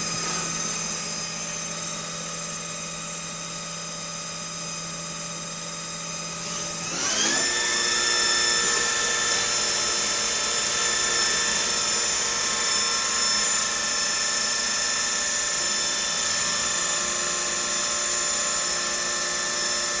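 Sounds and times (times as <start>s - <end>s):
lathe running with high whine: 0.0s - 20.0s.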